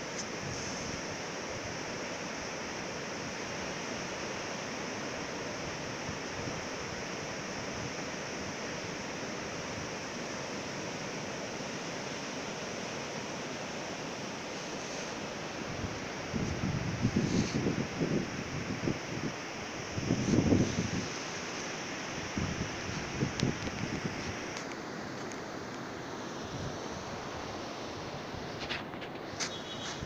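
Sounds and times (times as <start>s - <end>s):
ocean surf washing on beach: 0.0s - 30.0s.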